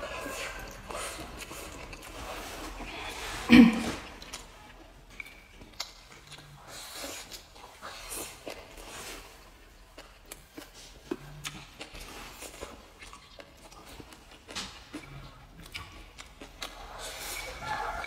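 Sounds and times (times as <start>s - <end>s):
food slurping and chewing: 0.0s - 18.0s.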